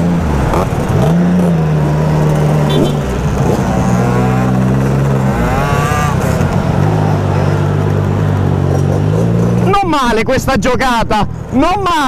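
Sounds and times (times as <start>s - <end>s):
motorcycle engine revving: 0.0s - 9.7s
motorcycle engines droning: 0.0s - 12.0s.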